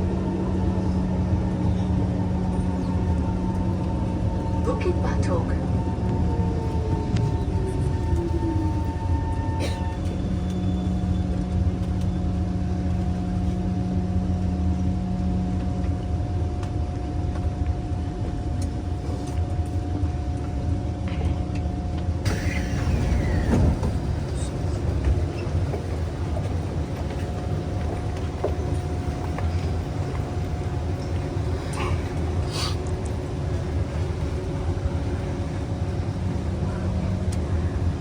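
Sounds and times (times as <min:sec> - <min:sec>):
metro train rumble: 0:00.0 - 0:38.0.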